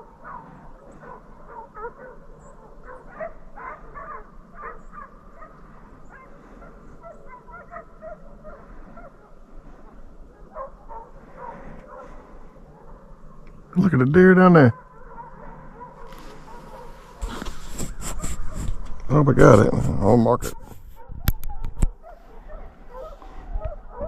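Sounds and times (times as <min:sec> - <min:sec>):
distant hounds baying and barking: 0:00.0 - 0:24.0.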